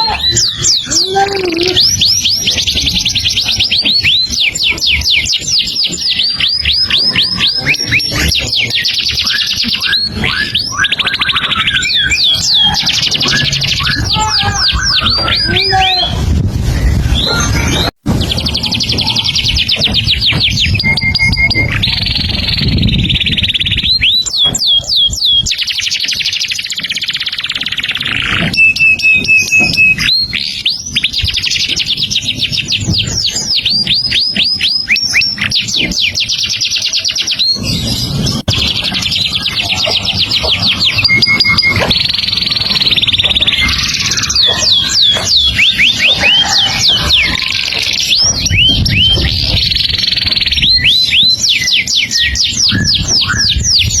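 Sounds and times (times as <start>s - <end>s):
songbird singing: 0.0s - 16.2s, 16.8s - 54.0s.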